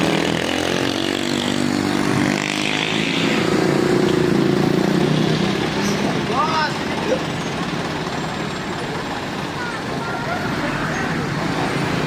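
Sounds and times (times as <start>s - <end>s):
vehicle engine under load: 0.0s - 12.0s.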